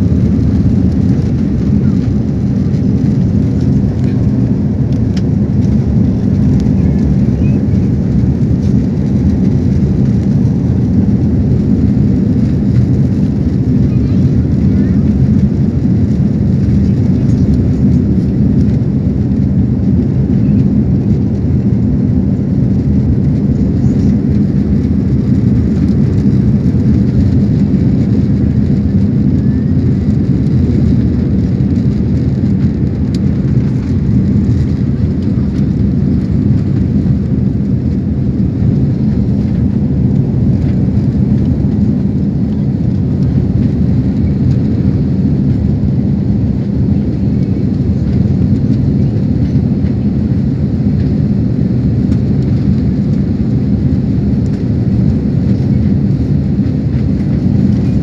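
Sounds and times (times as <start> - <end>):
rushing air in cabin: 0.0 - 58.0.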